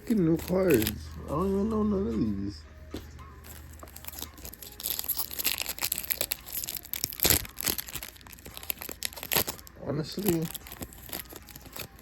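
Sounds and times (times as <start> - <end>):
foil wrapper crinkling and tearing: 0.0 - 1.6, 3.4 - 12.0.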